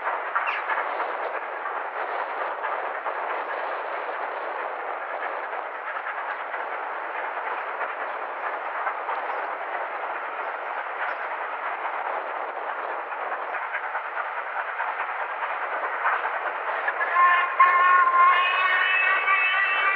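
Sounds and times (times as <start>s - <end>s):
steam locomotive exhaust and wheels: 0.0s - 19.9s.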